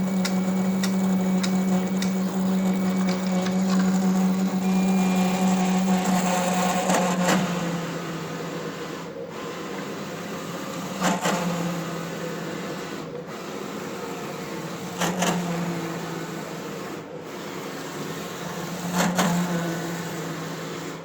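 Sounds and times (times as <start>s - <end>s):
printer motor humming: 0.0s - 21.0s.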